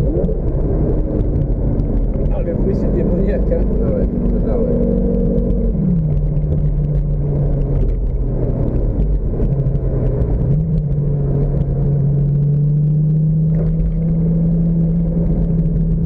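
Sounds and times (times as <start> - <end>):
car engine running: 0.0 - 16.0
road and wind rumble: 0.0 - 16.0.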